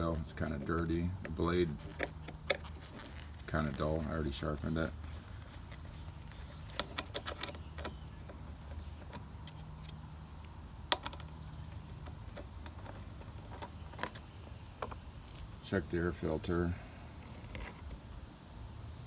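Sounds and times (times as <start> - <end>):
light clicks and knocks: 0.0 - 15.6.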